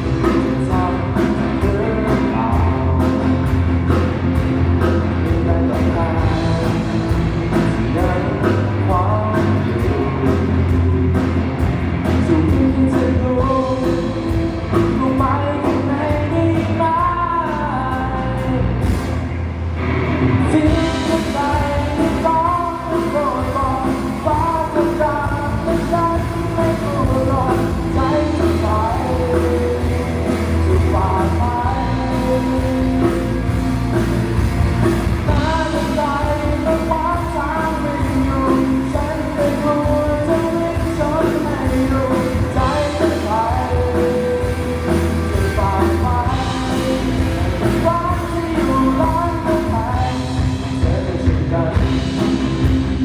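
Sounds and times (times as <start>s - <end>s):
rock pop song through sound system: 0.0s - 53.0s.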